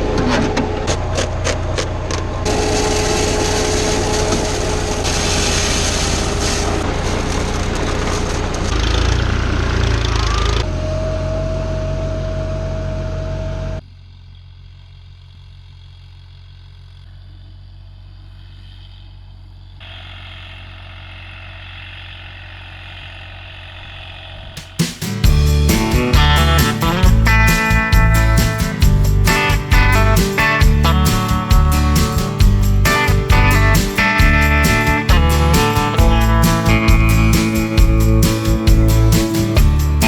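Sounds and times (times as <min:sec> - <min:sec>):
field implement whine: 0:00.0 - 0:13.8, 0:19.8 - 0:40.0
tractor engine running: 0:00.0 - 0:40.0.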